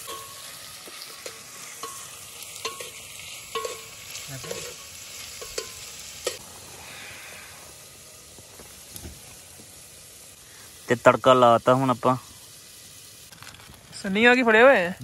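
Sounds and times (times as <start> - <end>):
onions sizzling in a pot: 0.0 - 15.0.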